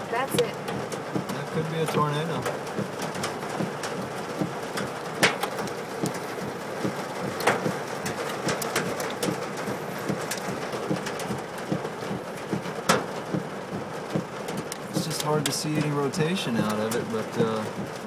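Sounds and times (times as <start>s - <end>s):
hailstones ticking on a car: 0.0s - 18.0s
rain pattering on a car: 0.0s - 18.0s.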